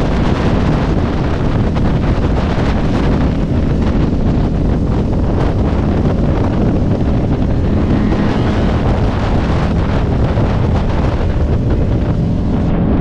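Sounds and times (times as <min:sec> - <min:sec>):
motorcycle engine droning: 0:00.0 - 0:13.0
wind buffeting microphone: 0:00.0 - 0:13.0.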